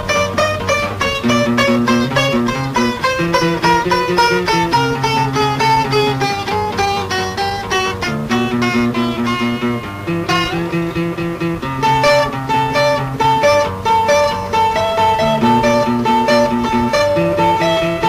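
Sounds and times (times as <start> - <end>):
higher melodic line: 0.0 - 18.0
rock guitars chugging riff: 0.0 - 18.0.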